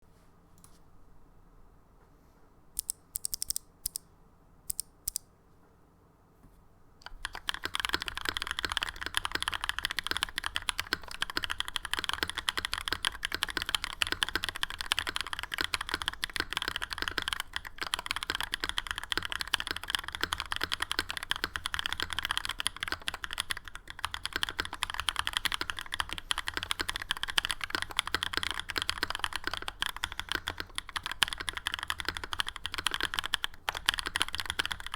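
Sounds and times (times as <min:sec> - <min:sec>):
mechanical keyboard typing: 0:02.8 - 0:04.0, 0:04.7 - 0:05.2, 0:07.0 - 0:34.9.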